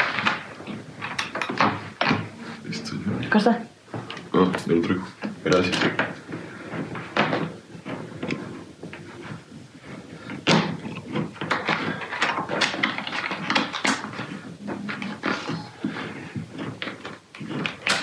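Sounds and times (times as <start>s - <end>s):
chair parts knocking and clicking: 0.0s - 2.4s, 4.0s - 18.0s.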